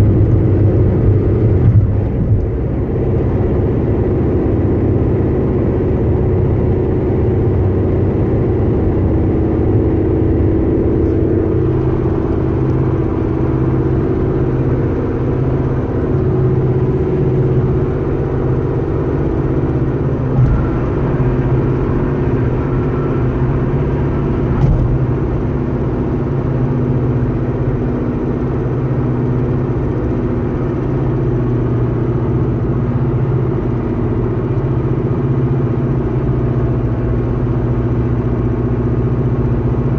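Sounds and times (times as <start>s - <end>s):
car humming noise: 0.0s - 39.9s.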